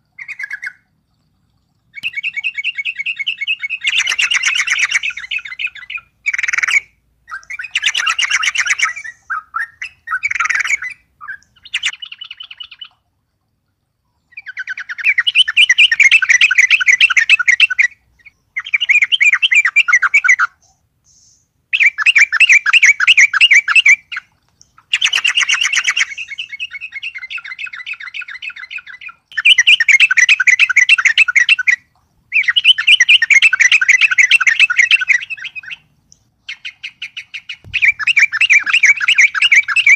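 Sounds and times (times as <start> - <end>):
bird chattering song: 2.0 - 13.0, 14.3 - 39.9.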